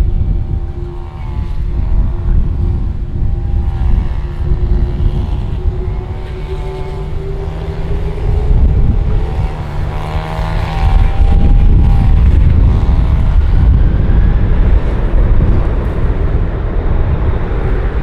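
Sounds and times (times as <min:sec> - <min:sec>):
jet airliner passing overhead: 0:00.0 - 0:18.0.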